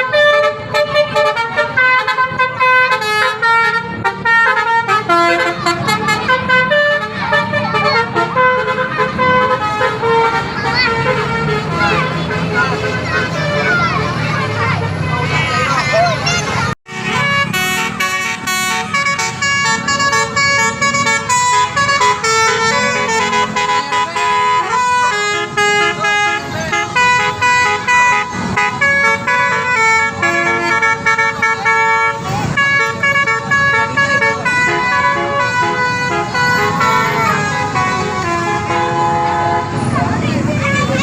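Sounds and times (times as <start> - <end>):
low rumble of vehicle engines: 0.0 - 41.0
musical bus horns: 0.0 - 41.0.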